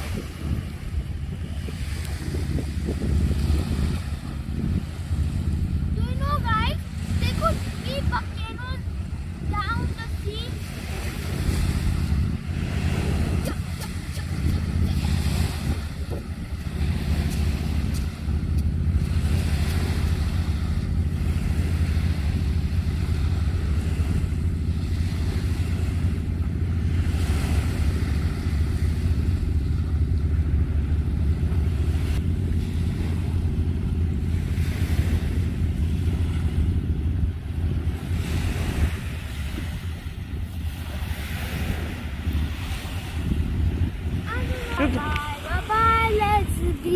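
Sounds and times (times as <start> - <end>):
small waves washing ashore: 0.0 - 46.9
wind buffeting microphone: 0.0 - 46.9.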